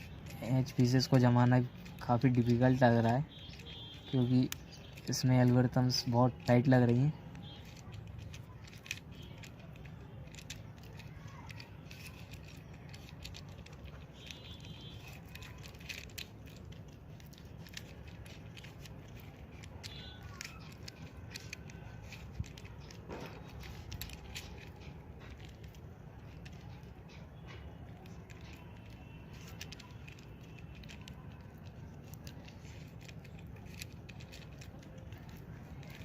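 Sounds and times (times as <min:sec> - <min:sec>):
puzzle cube clicking and rattling: 0:00.0 - 0:36.0.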